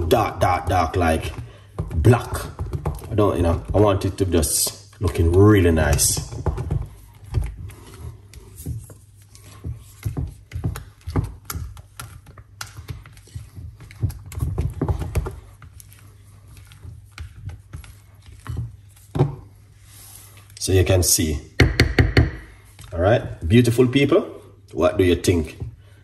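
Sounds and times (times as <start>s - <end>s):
utensil scraping mixing bowl: 0.0s - 20.9s.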